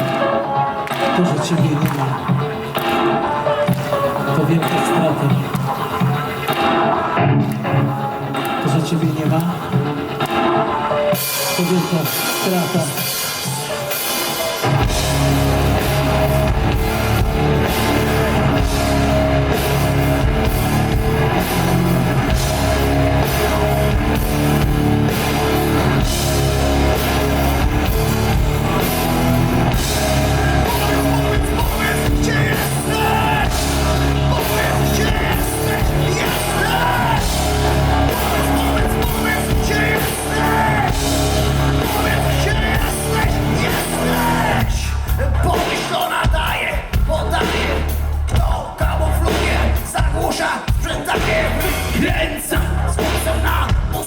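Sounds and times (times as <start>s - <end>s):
metal band playing live: 0.0s - 54.0s.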